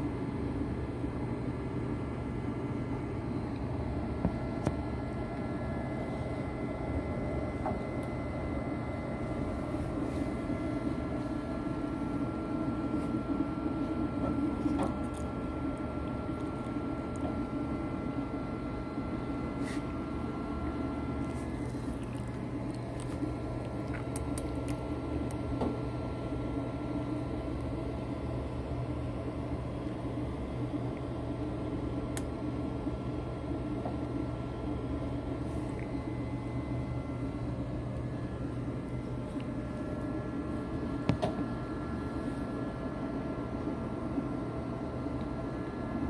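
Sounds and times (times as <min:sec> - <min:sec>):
printer fans and motors humming: 0:00.0 - 0:46.0.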